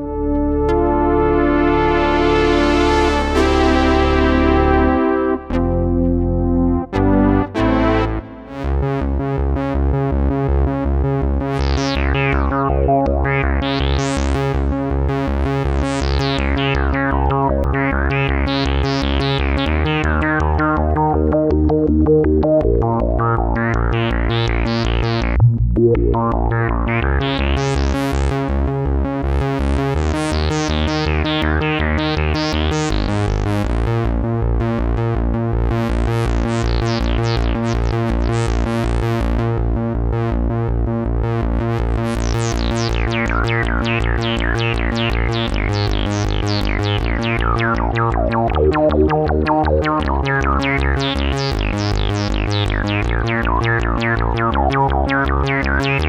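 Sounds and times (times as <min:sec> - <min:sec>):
synthesizer filter sweeps: 0:00.0 - 0:28.8, 0:29.4 - 0:56.0
fast pulsing bass: 0:00.0 - 0:56.0
synthesizer chords: 0:00.0 - 0:56.0.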